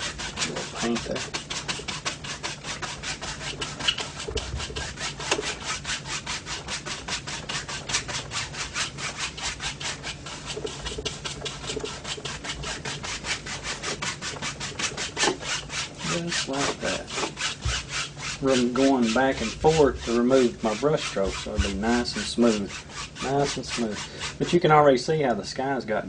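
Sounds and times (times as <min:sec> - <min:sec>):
paint brush scrubbing canvas: 0:00.0 - 0:24.9.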